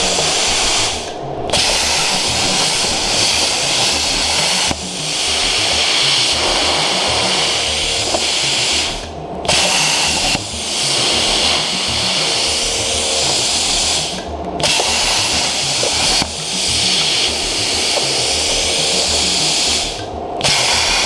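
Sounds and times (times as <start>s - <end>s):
plasma cutter arc hissing: 0.0s - 21.0s.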